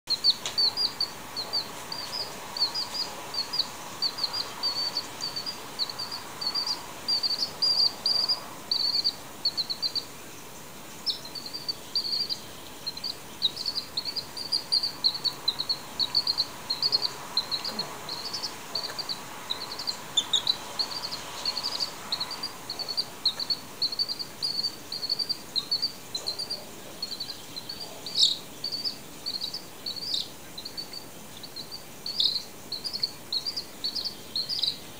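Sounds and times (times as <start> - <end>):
chick peeping: 0.1 - 10.1, 11.0 - 34.9.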